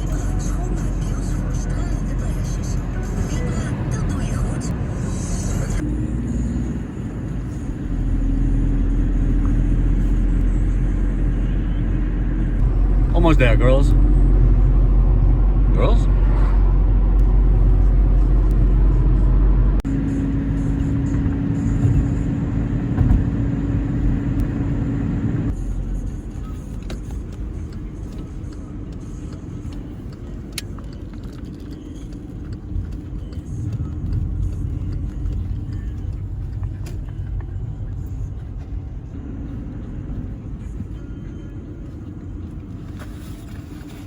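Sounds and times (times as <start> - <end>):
car engine and road rumble: 0.0 - 44.0.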